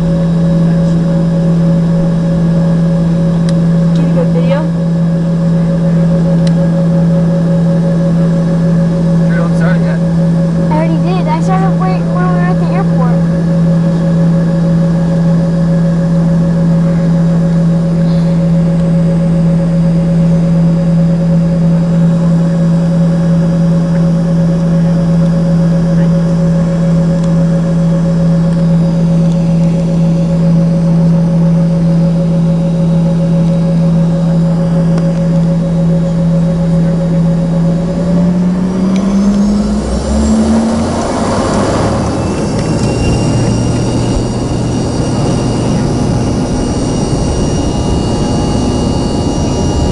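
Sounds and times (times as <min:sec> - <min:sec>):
jet engines humming and spooling up: 0:00.0 - 0:49.9.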